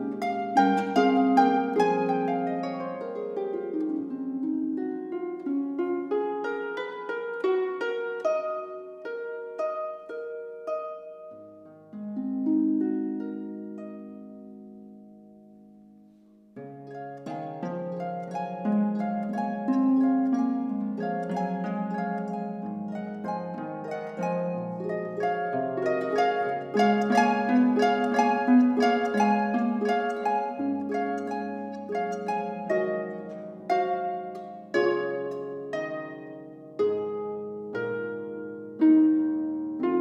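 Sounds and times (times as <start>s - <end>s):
solo harp melody: 0.0s - 40.0s.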